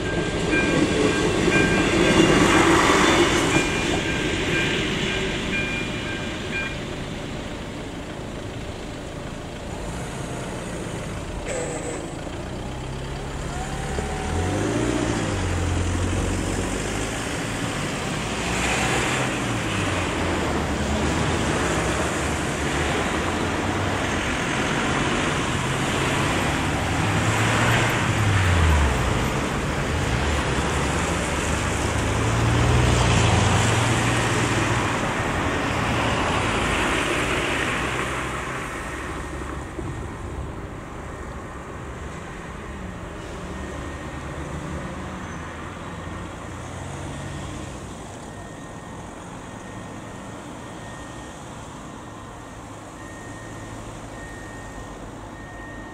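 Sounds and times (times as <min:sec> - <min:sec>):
cars driving over level crossing: 0:00.0 - 0:55.9.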